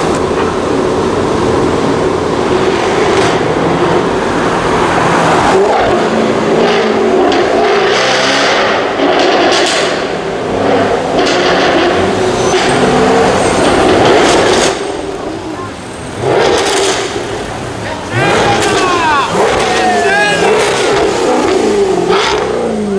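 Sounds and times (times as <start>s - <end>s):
car exhaust revving and accelerating: 0.0s - 22.9s.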